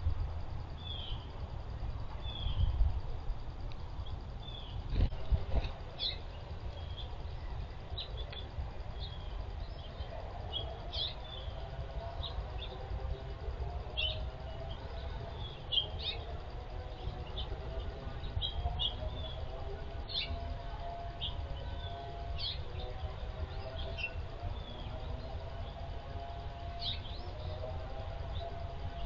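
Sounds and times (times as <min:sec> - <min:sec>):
low background rumble: 0:00.0 - 0:29.0
songbirds chirping: 0:00.0 - 0:29.0.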